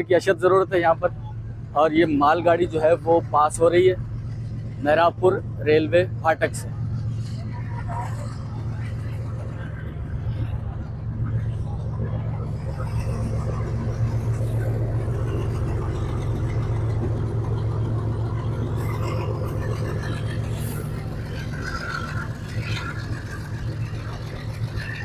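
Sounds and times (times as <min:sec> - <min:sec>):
locomotive engine drone: 0:00.0 - 0:25.0
wagons rumbling on track: 0:00.0 - 0:25.0.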